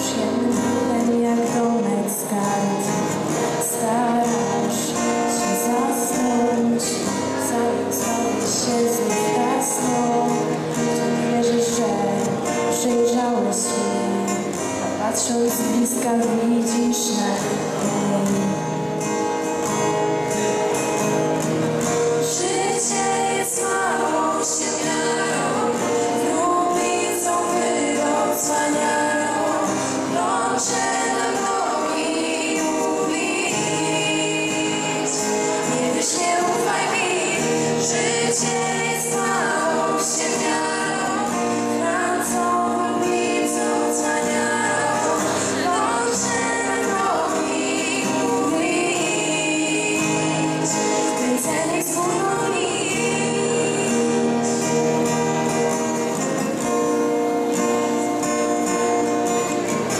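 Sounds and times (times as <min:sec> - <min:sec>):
girls singing together: 0:00.0 - 0:18.4, 0:22.0 - 0:55.2
acoustic guitar: 0:00.0 - 0:59.9.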